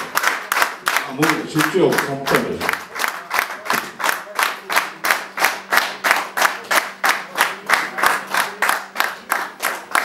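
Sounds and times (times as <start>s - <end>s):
people clapping in rhythm: 0.0s - 10.0s.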